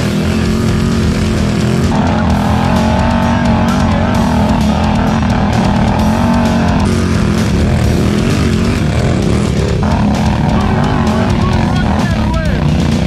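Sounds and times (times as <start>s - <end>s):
atv engines at high revs: 0.0s - 13.0s
rock music with electric guitar: 0.0s - 13.0s
tyres spinning: 0.0s - 13.0s.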